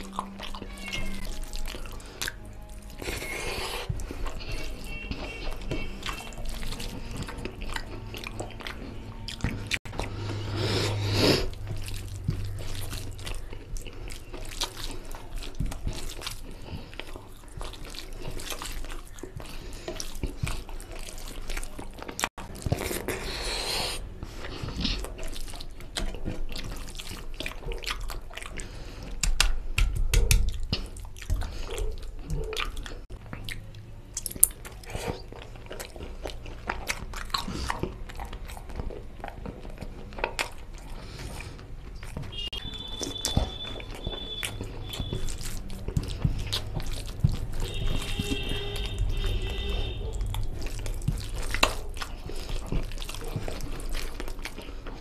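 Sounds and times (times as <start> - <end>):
chewing: 0.0 - 55.0
fingers squelching in food: 0.0 - 55.0.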